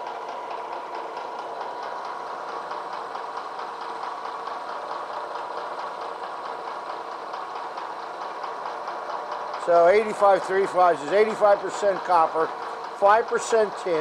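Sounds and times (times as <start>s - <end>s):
milling machine motor hum: 0.0s - 14.0s.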